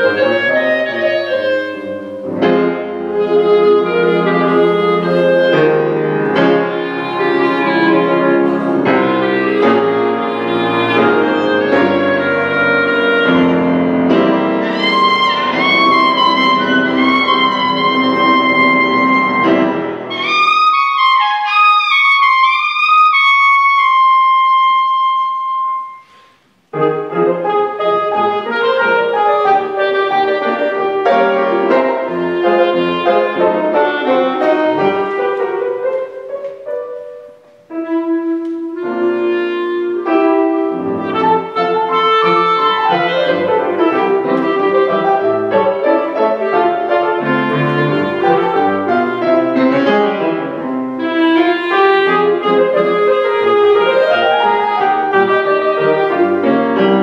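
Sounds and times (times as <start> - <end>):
clarinet playing: 0.0 - 57.0
grand piano playing: 0.0 - 57.0.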